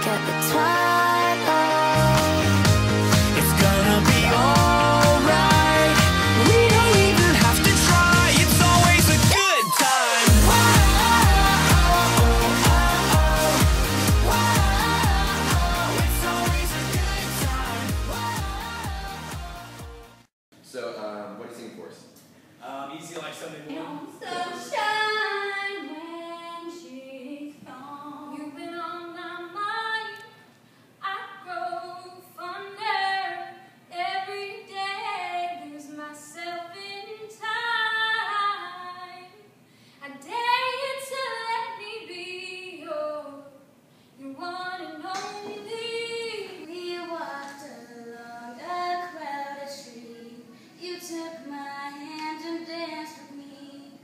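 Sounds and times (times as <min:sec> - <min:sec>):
women singing a cappella: 0:00.0 - 0:02.5, 0:03.1 - 0:20.1, 0:23.7 - 0:54.0.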